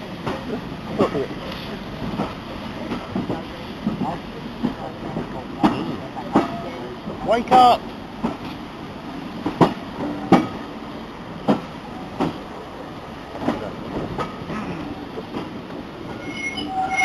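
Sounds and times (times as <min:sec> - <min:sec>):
train wheels clicking over rail joints: 0:00.1 - 0:08.7, 0:09.3 - 0:10.8, 0:11.4 - 0:12.6, 0:13.3 - 0:17.0.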